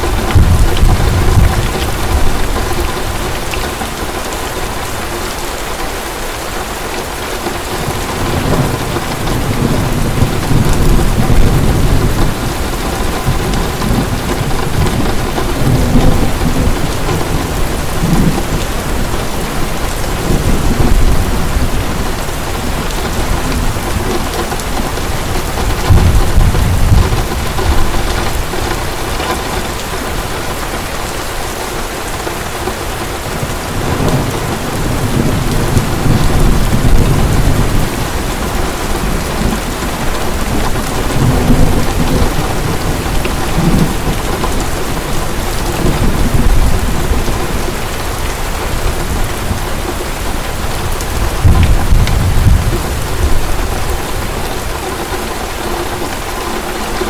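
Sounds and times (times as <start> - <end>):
low thunder rumbling: 0.0 - 5.8, 7.5 - 57.0
heavy rain pouring: 0.0 - 57.0.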